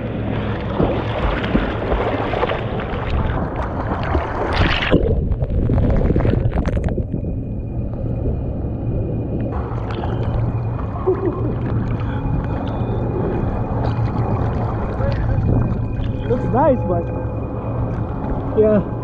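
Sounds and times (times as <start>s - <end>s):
ocean water rushing and splashing: 0.0s - 19.0s.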